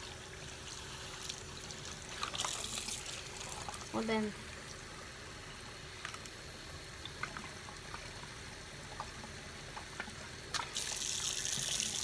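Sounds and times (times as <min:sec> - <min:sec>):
small drips and splashes: 0:00.0 - 0:12.0
water trickling: 0:00.0 - 0:12.0.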